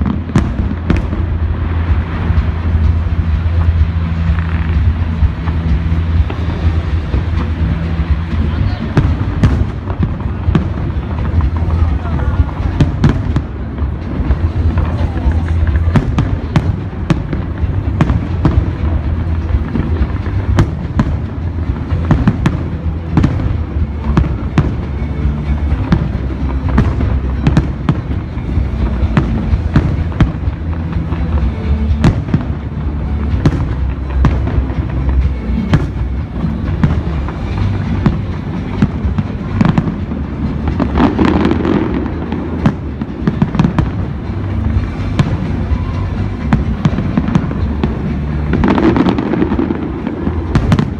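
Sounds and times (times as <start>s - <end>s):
fireworks bursting: 0.0s - 50.9s
loud music with bass: 0.0s - 50.9s.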